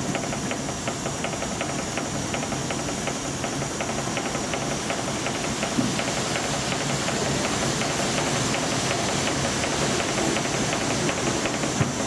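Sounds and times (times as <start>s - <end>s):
steam engine ticking: 0.0s - 12.0s
steam hissing: 0.0s - 12.0s.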